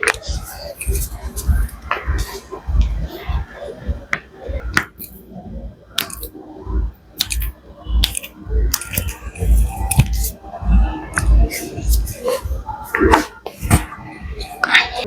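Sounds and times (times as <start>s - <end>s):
dull thumps: 0.0s - 15.0s.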